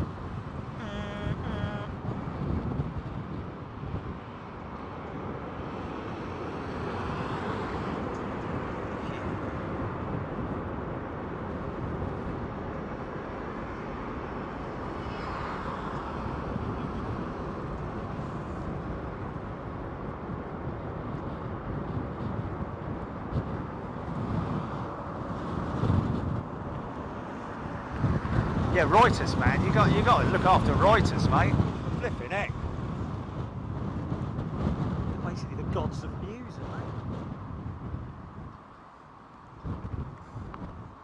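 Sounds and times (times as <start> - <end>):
wind buffeting microphone: 0.0 - 38.8, 39.4 - 41.0
jet engine noise: 0.0 - 41.0.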